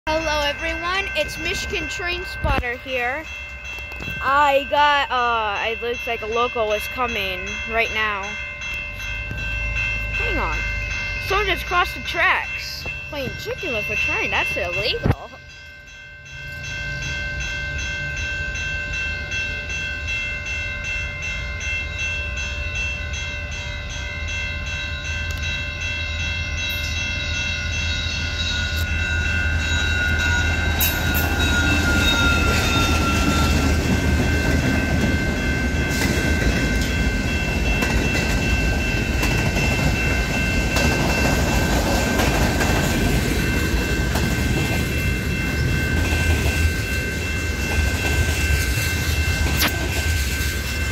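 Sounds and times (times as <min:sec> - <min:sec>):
diesel locomotive rumble: 0:00.0 - 0:15.4, 0:16.2 - 0:50.9
high warning tones: 0:00.0 - 0:50.9
train wheels on rails: 0:00.1 - 0:50.9.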